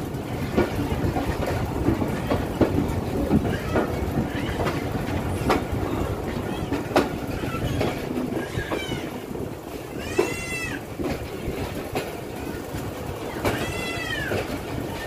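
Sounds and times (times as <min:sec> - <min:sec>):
train wheels rumbling: 0:00.0 - 0:15.0
wheels clanking over rail joints: 0:00.0 - 0:15.0.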